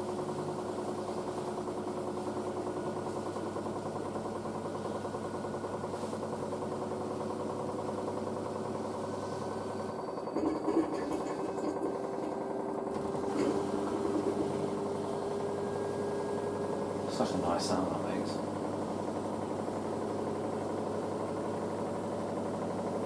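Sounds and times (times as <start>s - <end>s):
washing machine drum hum: 0.0s - 23.0s
washing machine motor whine: 0.0s - 23.0s.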